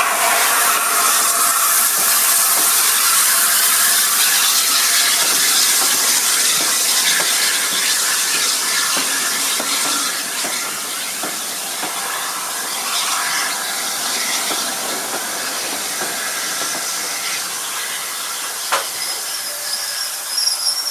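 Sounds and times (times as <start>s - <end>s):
steam locomotive hissing: 0.0s - 20.9s.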